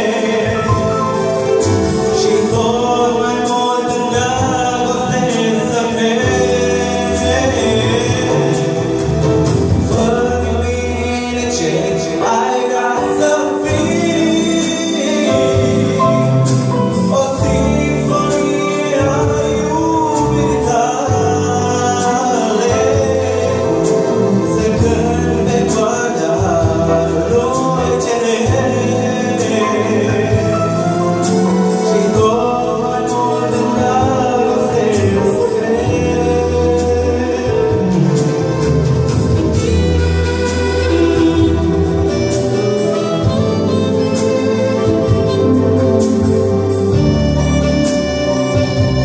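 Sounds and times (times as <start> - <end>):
accordion: 0.0 - 49.0
electronic keyboard: 0.0 - 49.0
man singing into a microphone: 0.0 - 49.0.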